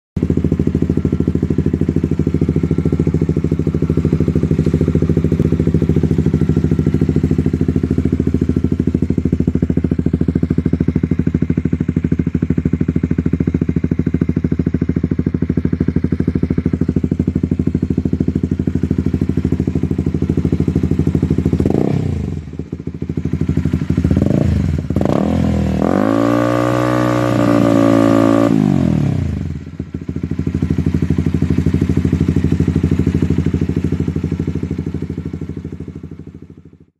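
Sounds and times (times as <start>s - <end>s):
motorcycle engine idling and revving: 0.2s - 36.9s.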